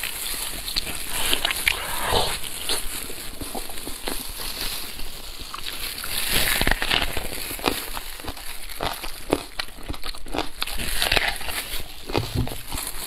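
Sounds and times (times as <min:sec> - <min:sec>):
plastic gloves crinkling: 0:00.0 - 0:13.0
person chewing with wet smacks: 0:00.2 - 0:12.9.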